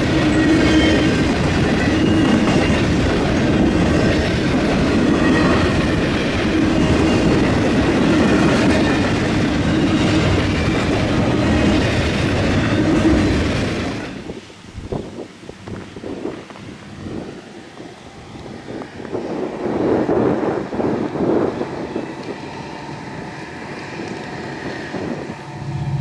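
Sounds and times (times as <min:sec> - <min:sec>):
train wheels clattering on rails: 0:00.0 - 0:26.0.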